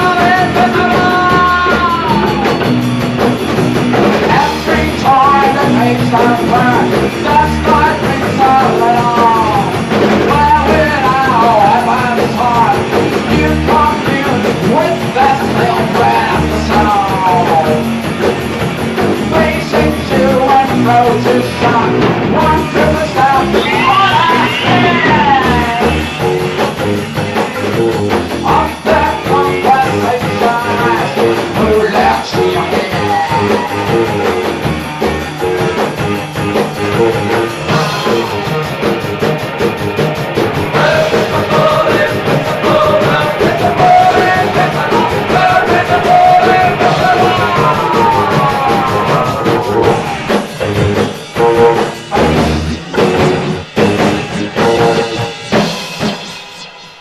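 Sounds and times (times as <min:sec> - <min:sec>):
electric guitar: 0:00.0 - 0:57.0
rock band playing loudly: 0:00.0 - 0:57.0.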